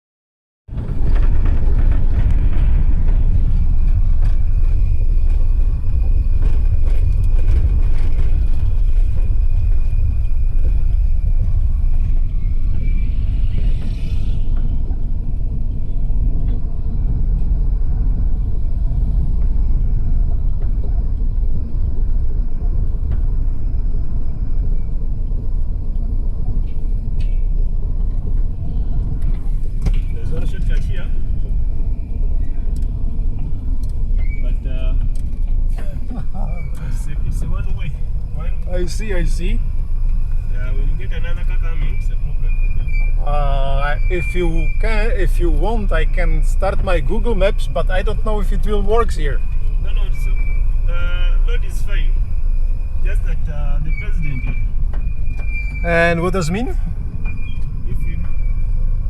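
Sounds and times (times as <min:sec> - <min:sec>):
car engine and tyres rumbling: 0:00.6 - 0:59.0.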